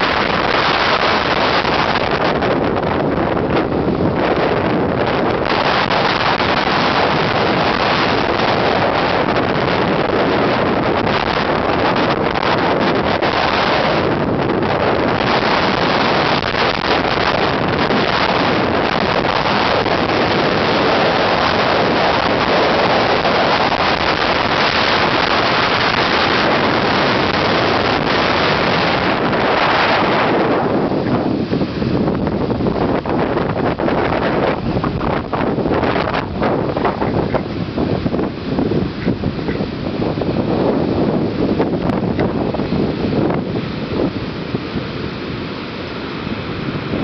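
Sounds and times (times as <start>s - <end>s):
strong wind buffeting microphone: 0.0s - 47.0s
surf breaking against seawall: 0.0s - 47.0s.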